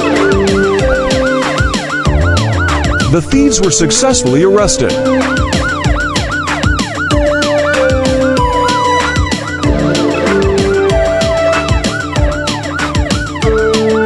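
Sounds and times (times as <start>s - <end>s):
background music with steady beat: 0.0s - 14.0s
emergency siren rising and falling: 0.0s - 14.0s.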